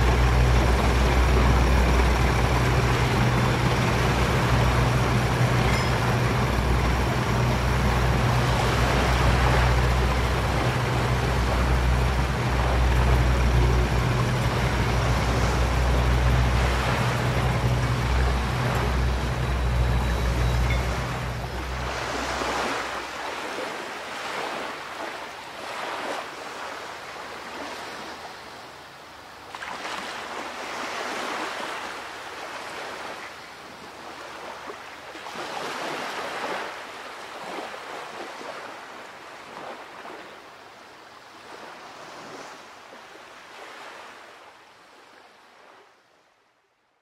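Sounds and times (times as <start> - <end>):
ocean waves washing in: 0.0 - 46.5.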